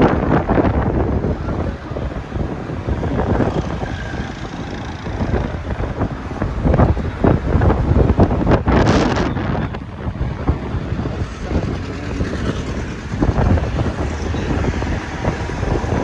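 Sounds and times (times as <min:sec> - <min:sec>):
road noise: 0:00.0 - 0:16.0
vehicle engine: 0:00.0 - 0:16.0
wind buffeting microphone: 0:00.0 - 0:16.0.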